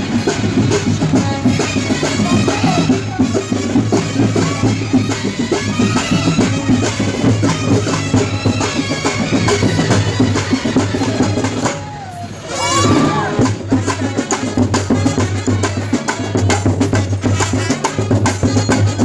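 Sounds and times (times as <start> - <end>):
drums beating fast rhythm: 0.0 - 19.0
reed wind instrument melody: 0.0 - 19.0.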